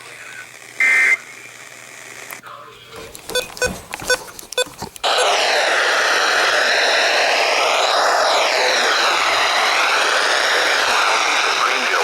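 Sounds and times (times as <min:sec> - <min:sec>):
radio static hiss: 0:00.0 - 0:03.3, 0:04.7 - 0:12.0.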